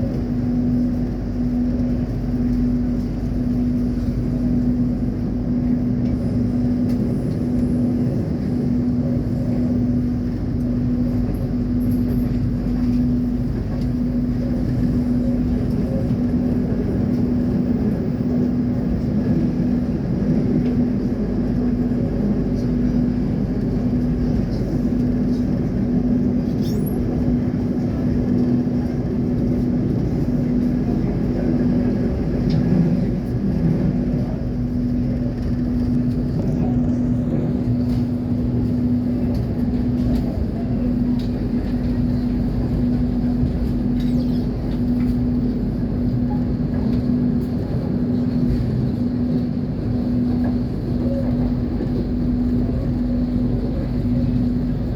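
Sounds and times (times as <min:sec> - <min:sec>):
constant hum: 0:00.0 - 0:54.9
train rumbling: 0:00.0 - 0:54.9.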